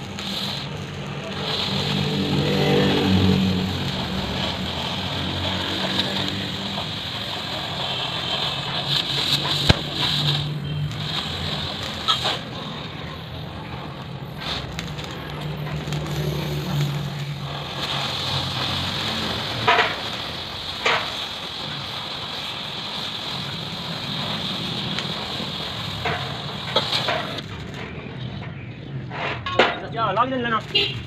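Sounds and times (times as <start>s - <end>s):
cutting torch hissing: 0.0s - 28.3s
molten metal crackling: 0.0s - 29.0s, 29.6s - 31.0s.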